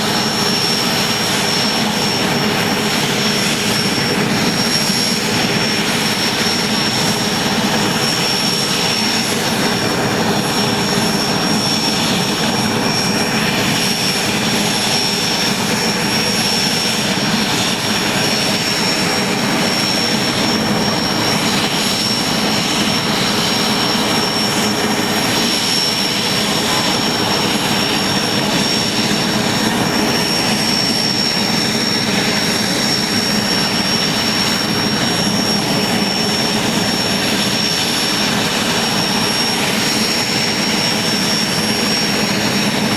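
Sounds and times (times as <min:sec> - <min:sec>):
helicopter engine roar: 0:00.0 - 0:42.9
high turbine whine: 0:00.0 - 0:42.9.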